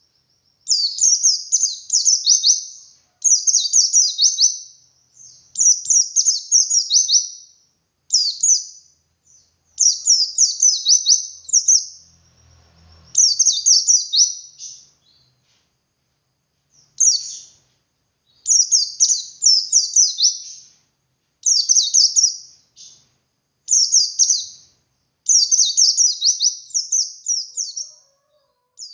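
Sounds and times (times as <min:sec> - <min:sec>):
bird twittering song: 0:00.0 - 0:15.6, 0:16.7 - 0:20.8, 0:21.4 - 0:28.1.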